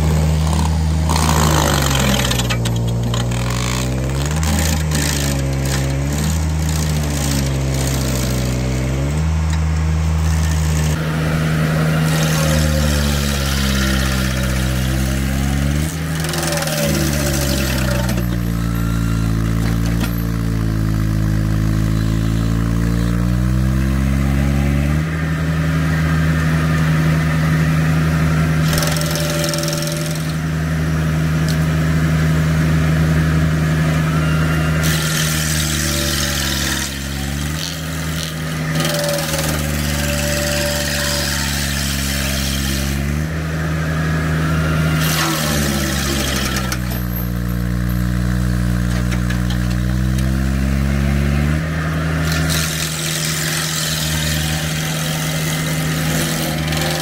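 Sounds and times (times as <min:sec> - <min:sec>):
skid steer engine running hard: 0:00.0 - 0:57.0
stump grinder chewing wood: 0:00.0 - 0:57.0.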